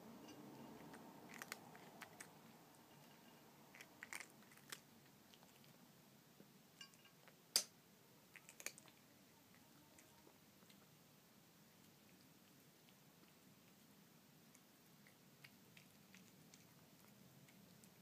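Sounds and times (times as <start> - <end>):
cat chewing food: 0.3 - 7.5, 8.2 - 18.0.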